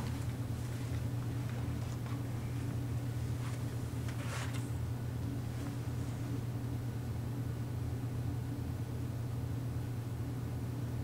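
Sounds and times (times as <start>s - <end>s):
ventilation hum with hiss: 0.0s - 11.0s.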